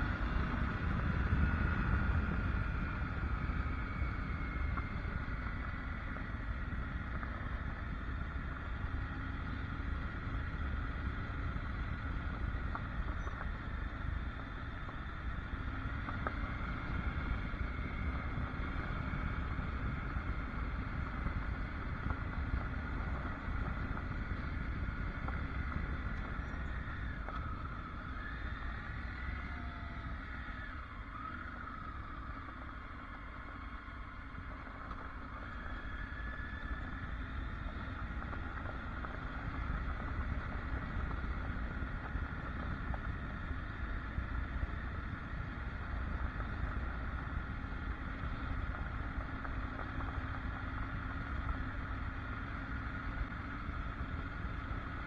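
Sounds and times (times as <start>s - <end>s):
motorcycle engine running: 0.0s - 55.0s
rumbling wind and road noise: 0.0s - 55.0s.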